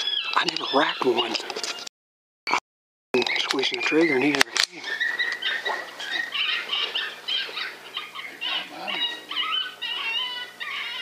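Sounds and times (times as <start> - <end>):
coyotes yipping and howling: 0.0 - 1.7, 3.2 - 11.0.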